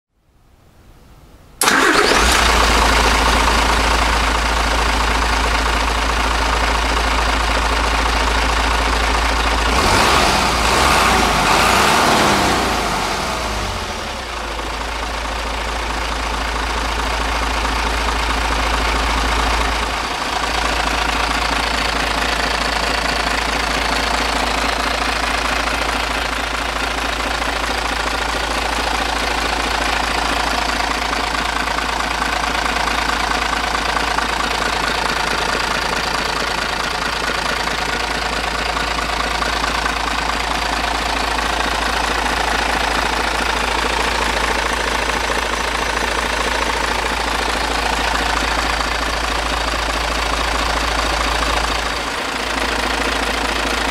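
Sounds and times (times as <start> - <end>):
diesel engine idling and revving: 1.6 - 53.9.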